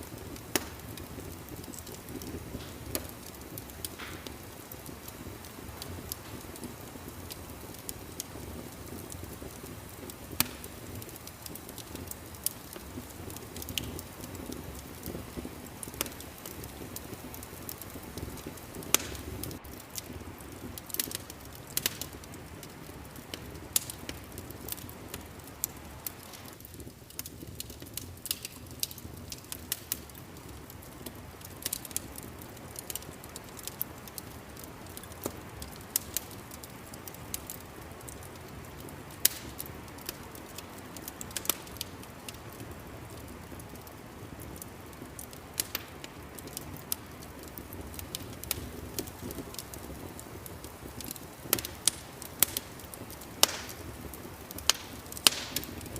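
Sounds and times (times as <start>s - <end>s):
fire sharp snaps: 0.0s - 55.9s
wood fire crackling: 0.0s - 55.9s.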